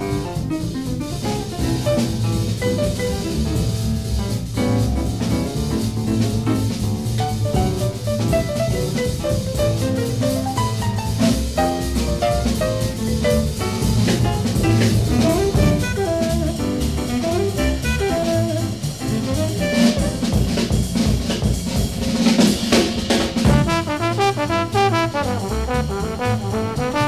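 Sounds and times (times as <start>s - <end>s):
upright bass: 0.0s - 22.1s, 23.5s - 27.0s
bass drum: 0.0s - 27.0s
small-group jazz: 0.0s - 27.0s.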